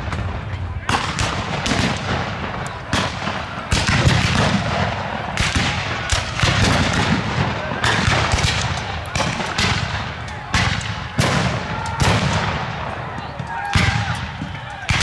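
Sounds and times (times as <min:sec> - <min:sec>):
musket shots with echoes: 0:00.0 - 0:15.0.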